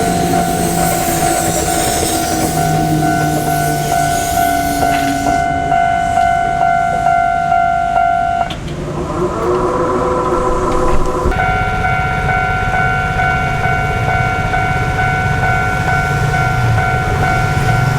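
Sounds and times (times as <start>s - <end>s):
level crossing warning bell: 0.0s - 17.9s
lower-pitched alarm tone: 0.0s - 17.9s
train running over crossing: 0.0s - 17.9s.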